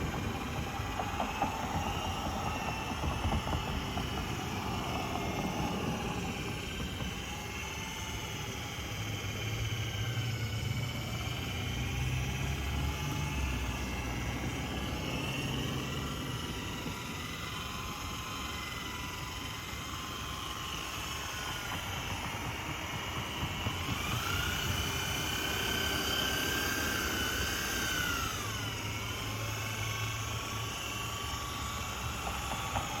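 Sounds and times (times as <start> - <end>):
electric polisher motor whining: 0.0 - 33.0.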